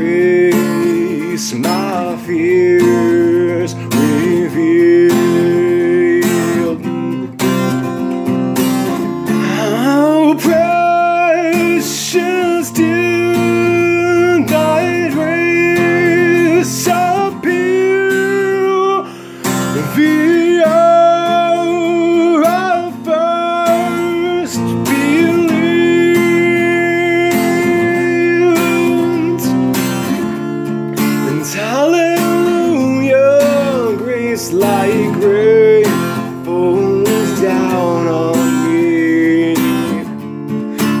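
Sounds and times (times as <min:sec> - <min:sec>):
man singing: 0:00.0 - 0:07.8, 0:09.2 - 0:41.0
acoustic guitar strumming: 0:00.0 - 0:41.0.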